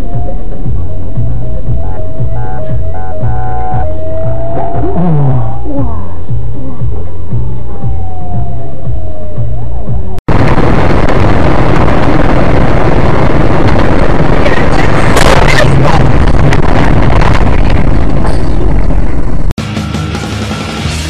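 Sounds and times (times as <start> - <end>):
distorted car noise: 0.0 - 19.6.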